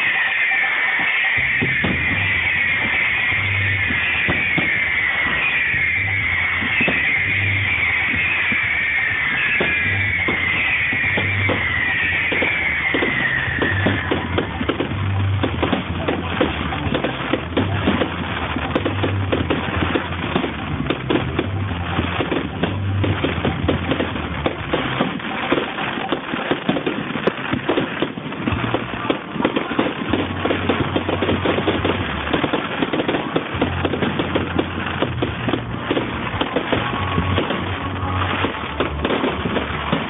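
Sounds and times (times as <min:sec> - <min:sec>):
fireworks crackling and popping: 0:00.0 - 0:40.0.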